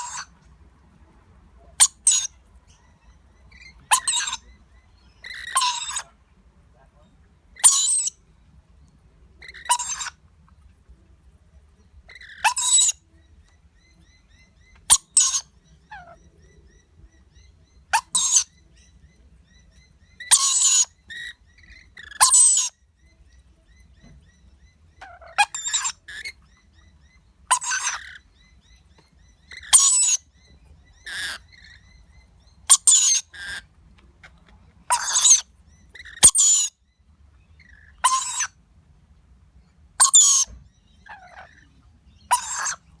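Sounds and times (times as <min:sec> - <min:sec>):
birds screeching: 0:00.0 - 0:00.5, 0:01.6 - 0:08.5, 0:09.3 - 0:10.8, 0:11.9 - 0:38.7, 0:39.6 - 0:43.0
faint bird chirping: 0:00.0 - 0:43.0.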